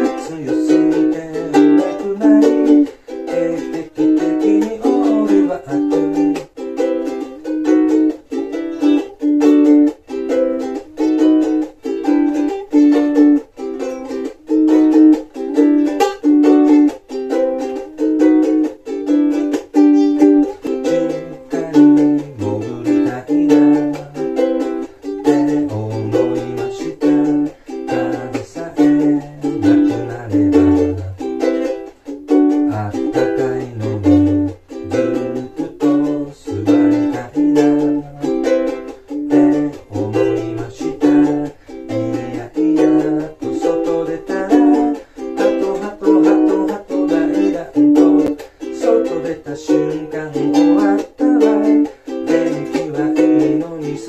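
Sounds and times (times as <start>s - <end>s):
ukulele strumming: 0.0s - 54.0s.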